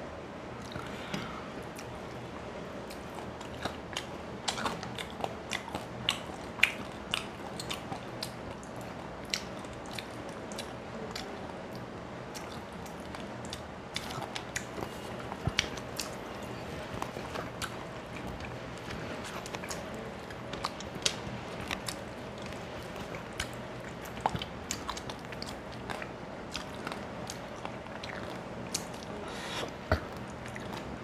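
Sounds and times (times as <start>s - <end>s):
chewing crunchy fish bones: 2.8s - 31.0s.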